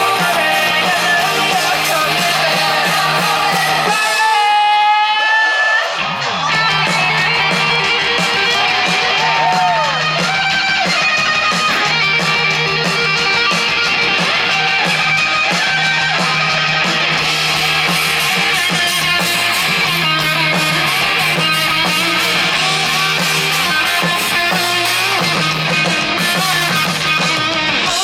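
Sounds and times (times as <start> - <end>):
electric guitar: 0.0 - 28.0
live rock band playing: 0.0 - 28.0.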